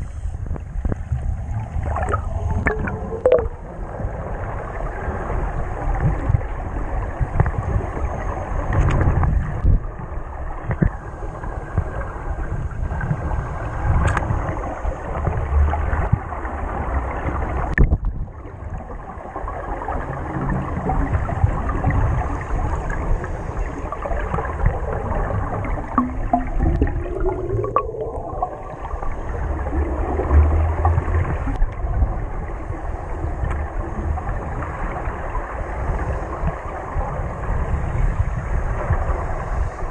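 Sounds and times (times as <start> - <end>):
water rushing and gurgling: 0.0 - 39.9.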